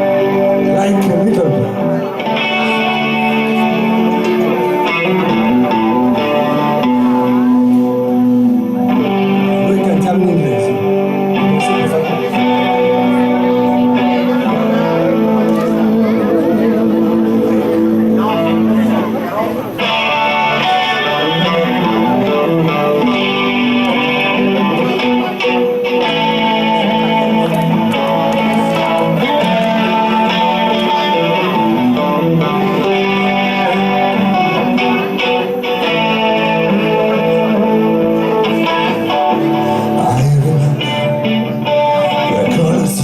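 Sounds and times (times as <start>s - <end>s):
bass line: 0.0s - 43.0s
electric guitar playing: 0.0s - 43.0s.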